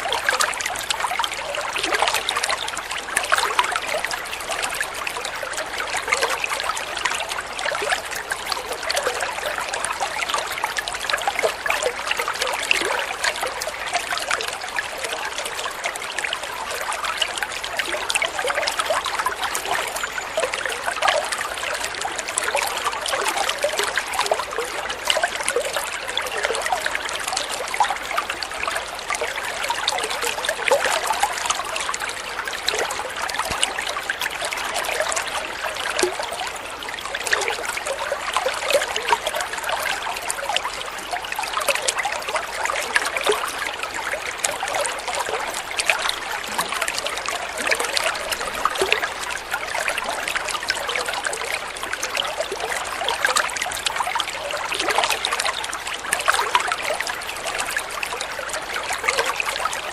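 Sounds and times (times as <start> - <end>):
water trickling and babbling: 0.0 - 59.9.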